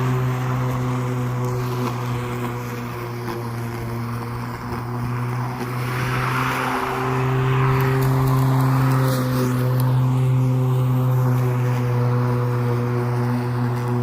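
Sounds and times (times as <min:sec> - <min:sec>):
electric lawn mower humming: 0:00.0 - 0:14.0
rushing of cut grass: 0:00.0 - 0:14.0.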